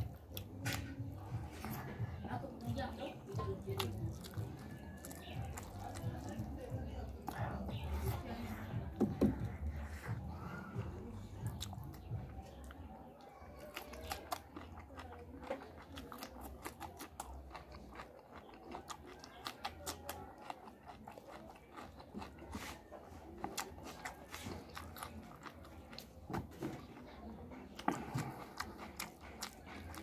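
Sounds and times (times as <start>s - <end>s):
chewing mouth clicks: 0.0s - 30.0s.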